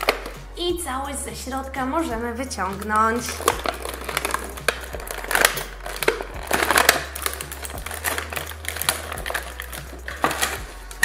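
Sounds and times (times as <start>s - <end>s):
plastic packaging crinkling: 0.0s - 0.6s, 2.0s - 11.0s.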